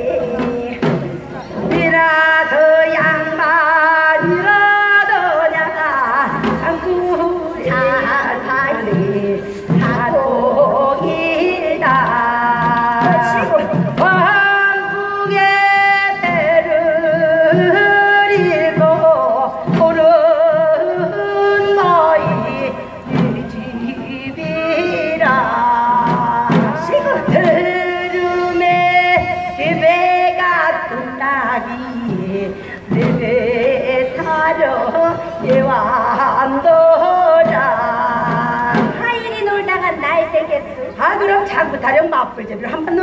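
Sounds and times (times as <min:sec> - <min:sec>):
folk singing with wide vibrato: 0:00.0 - 0:42.0
traditional accompaniment with low beat: 0:00.0 - 0:43.0.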